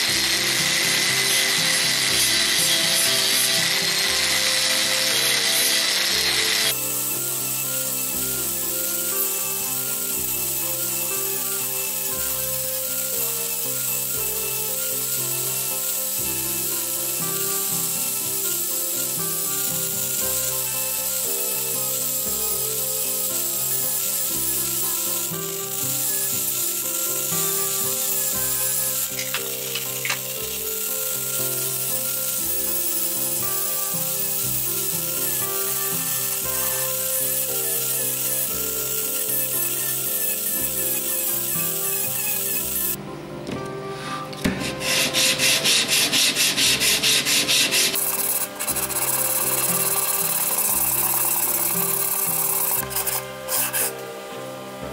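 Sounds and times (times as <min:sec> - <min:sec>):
sanding disc rubbing wood: 0:00.0 - 0:43.0, 0:43.8 - 0:54.0
background music: 0:00.0 - 0:54.9.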